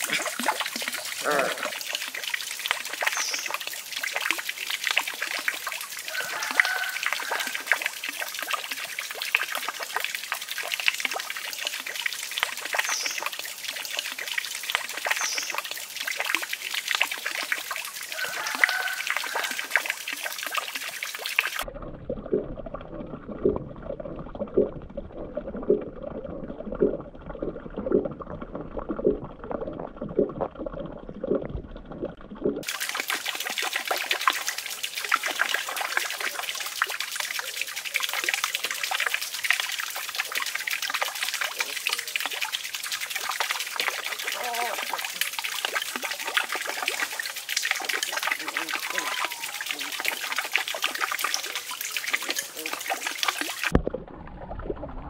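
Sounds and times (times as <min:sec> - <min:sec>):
underwater bubbling pops: 0:00.0 - 0:05.9, 0:06.5 - 0:55.0
water trickling into pond: 0:00.0 - 0:55.0.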